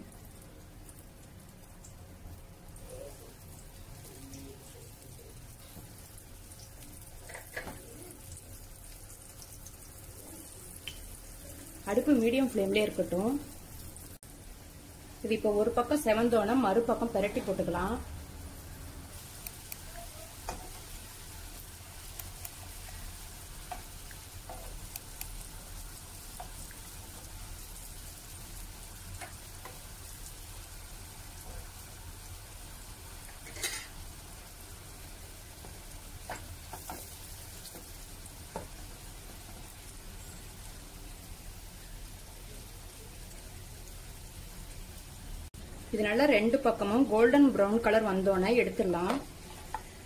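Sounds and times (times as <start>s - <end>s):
flatbreads sizzling in oil: 0.0s - 50.0s.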